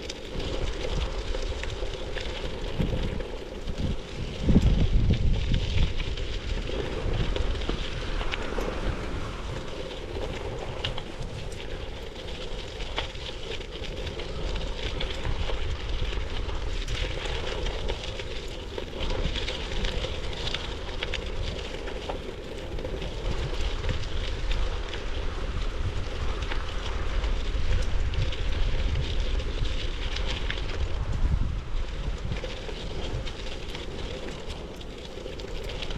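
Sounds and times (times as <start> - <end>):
faint crackles: 0.0 - 35.9
wind rumbling on microphone: 0.0 - 35.9.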